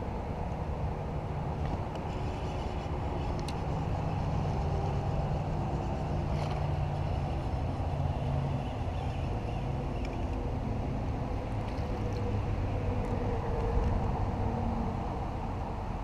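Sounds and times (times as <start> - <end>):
low engine rumble with hum: 0.0 - 16.0.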